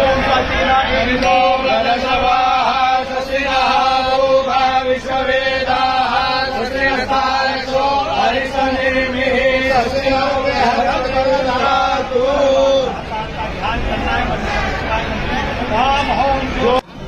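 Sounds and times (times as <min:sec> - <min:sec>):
person chanting mantras: 0:00.0 - 0:17.0.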